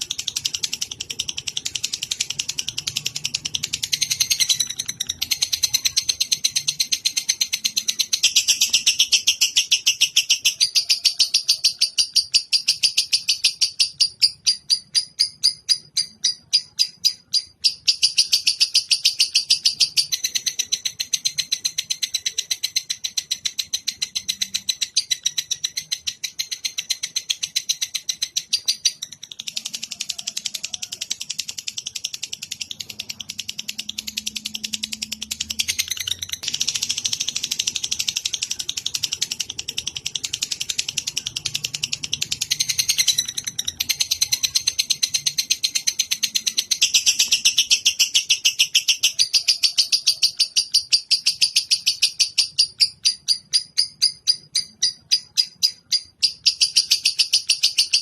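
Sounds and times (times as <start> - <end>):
lovebird chattering trill: 0.0 - 58.0.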